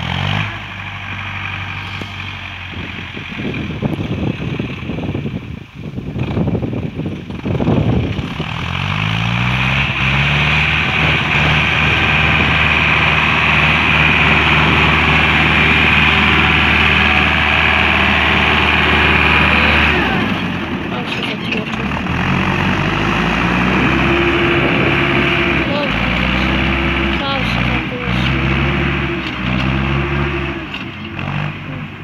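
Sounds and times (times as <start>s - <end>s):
diesel tractor engine under load: 0.0s - 32.0s.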